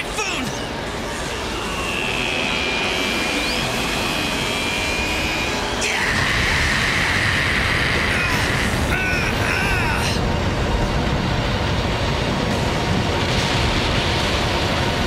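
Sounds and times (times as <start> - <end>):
high whine: 0.0 - 15.0
rushing rumble: 0.0 - 15.0.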